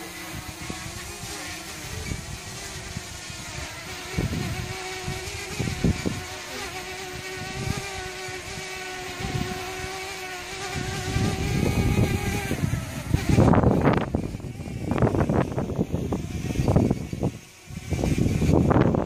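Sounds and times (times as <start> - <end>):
drone propellers humming: 0.0 - 19.0
wind buffeting microphone: 0.0 - 19.0.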